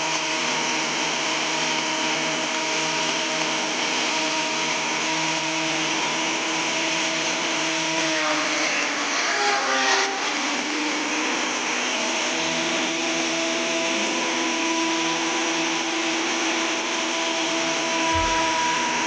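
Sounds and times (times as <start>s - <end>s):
woodshop machine motor whine: 0.0s - 19.0s.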